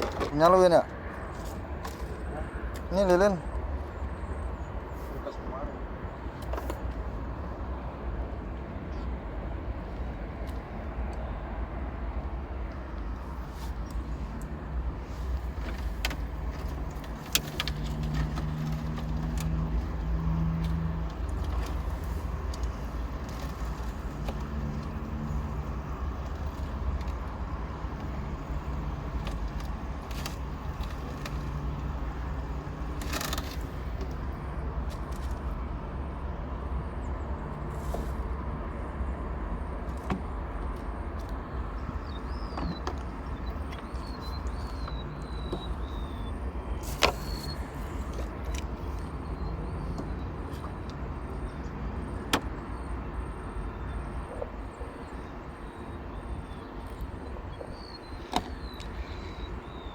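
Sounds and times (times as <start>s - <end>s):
low rumble of traffic: 0.0s - 59.9s
vehicle engines passing: 0.0s - 59.9s.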